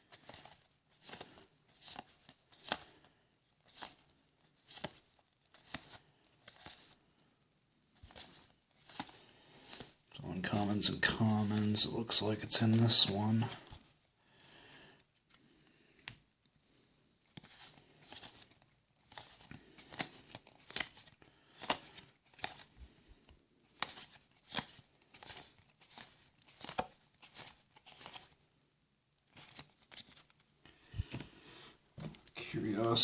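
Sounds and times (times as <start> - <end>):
cards and wrappers rustling: 0.0 - 7.3, 7.9 - 28.6, 29.2 - 33.0.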